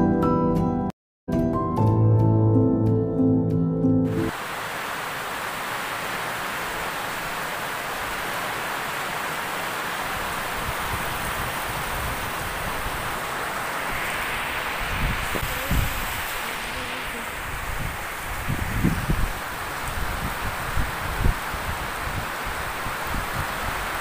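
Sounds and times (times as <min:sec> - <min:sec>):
heavy rain falling: 0:04.1 - 0:24.0.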